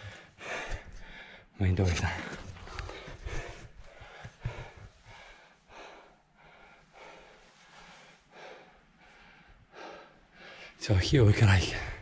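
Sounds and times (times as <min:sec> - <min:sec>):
faint heavy breathing: 0:00.0 - 0:10.8.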